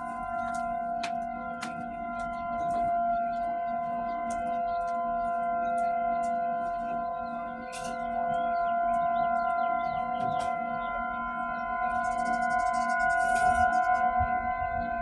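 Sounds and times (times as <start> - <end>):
tornado warning siren: 0.0 - 15.0.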